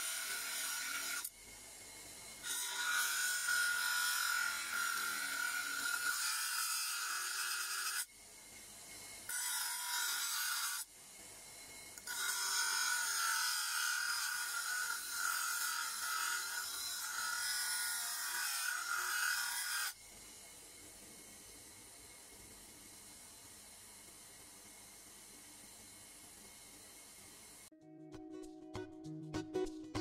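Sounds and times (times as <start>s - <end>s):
workshop tool working material: 0.0s - 27.7s.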